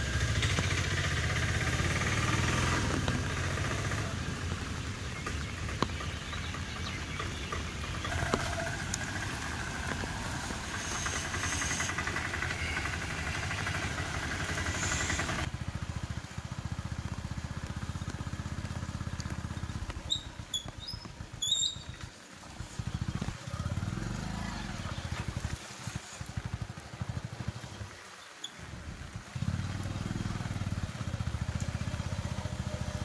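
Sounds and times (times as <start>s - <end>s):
engine rumble: 0.0s - 33.0s
heavy rain hissing: 0.0s - 33.0s.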